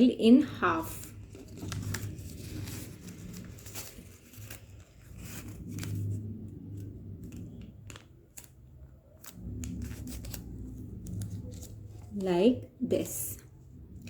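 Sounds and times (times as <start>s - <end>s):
paper rustling and crinkling: 0.6s - 13.1s.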